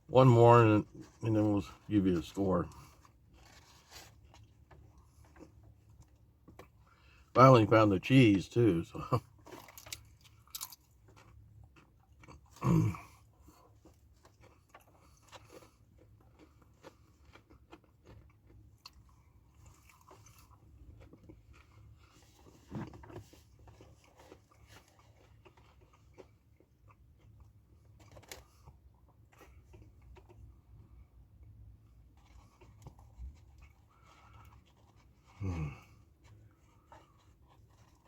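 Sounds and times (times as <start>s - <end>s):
crunching and chewing chips: 0.2s - 38.0s.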